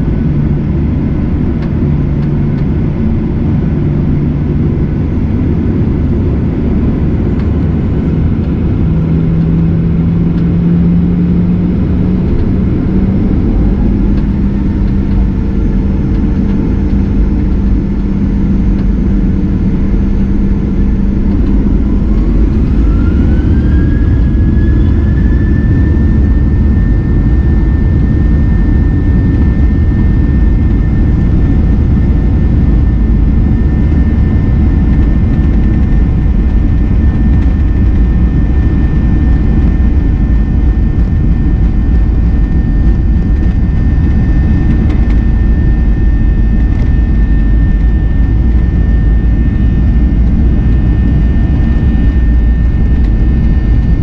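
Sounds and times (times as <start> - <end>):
jet engine rumble: 0.0 - 54.0
jet engine whine: 0.0 - 54.0.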